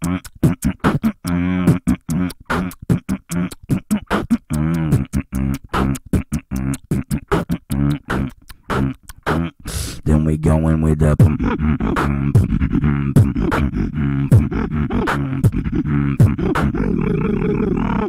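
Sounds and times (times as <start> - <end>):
person beatboxing: 0.0 - 18.0.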